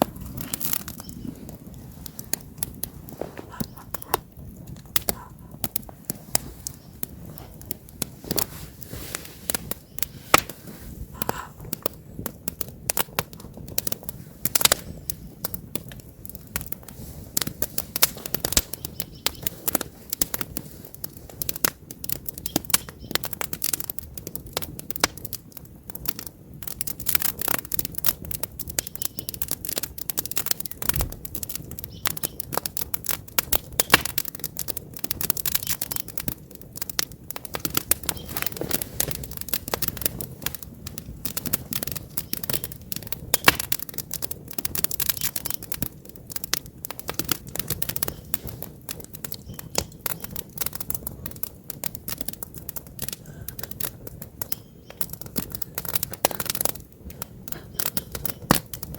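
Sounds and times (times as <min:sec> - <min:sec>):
soft fire hiss: 0:00.0 - 0:25.8, 0:26.4 - 0:58.9
campfire crackling and popping: 0:00.0 - 0:58.9.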